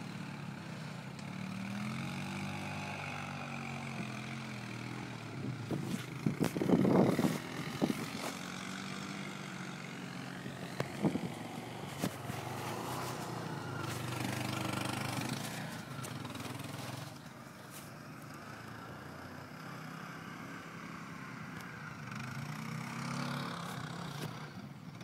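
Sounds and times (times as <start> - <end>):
quad bike engine running: 0.0 - 25.0.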